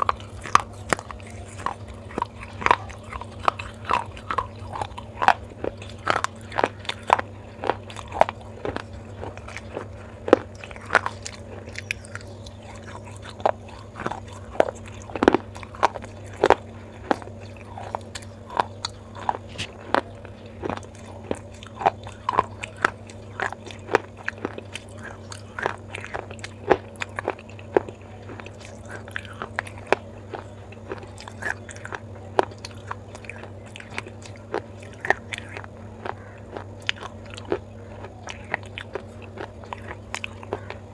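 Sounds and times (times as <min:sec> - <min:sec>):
clay crunching between teeth: 0:00.0 - 0:40.9
steady low hum: 0:00.0 - 0:40.9.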